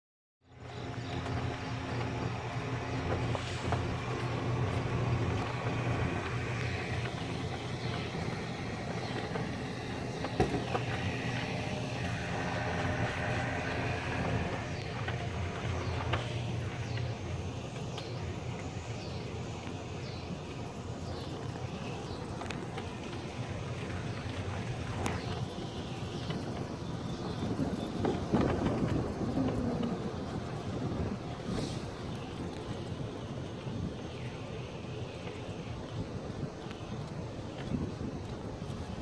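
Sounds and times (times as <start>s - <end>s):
golf cart humming: 0.5s - 39.0s.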